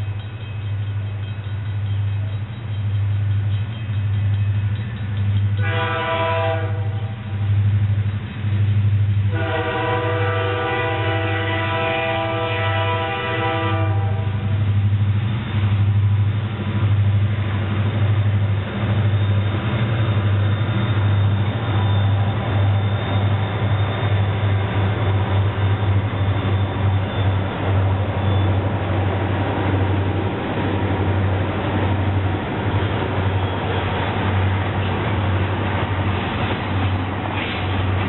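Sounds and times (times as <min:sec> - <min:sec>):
freight cars rolling on rails: 0:00.0 - 0:38.0
low diesel locomotive drone: 0:00.0 - 0:38.0.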